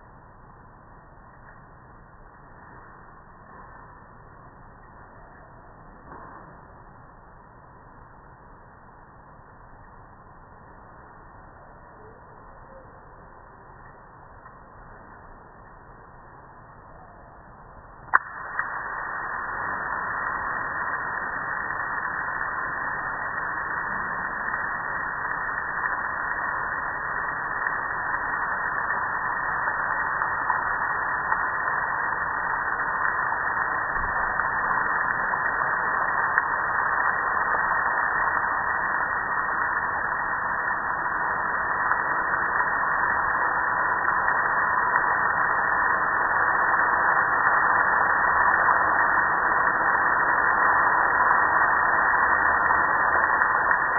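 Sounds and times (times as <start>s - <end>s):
faint steady tone: 0.0s - 53.9s.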